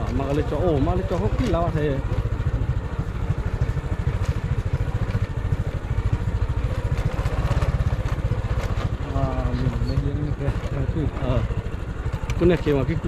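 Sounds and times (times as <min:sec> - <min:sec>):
small motorcycle engine running: 0:00.0 - 0:13.0.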